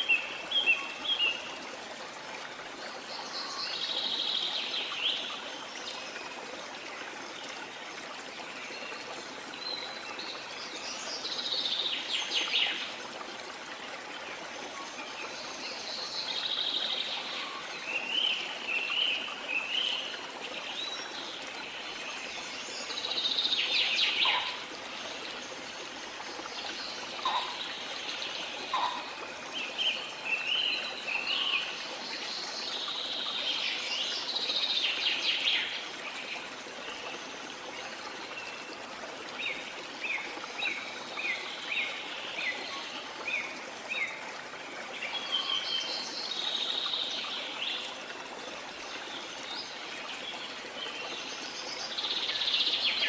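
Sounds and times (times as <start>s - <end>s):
forest birds chirping: 0.0s - 1.6s, 8.4s - 13.0s, 14.2s - 53.0s.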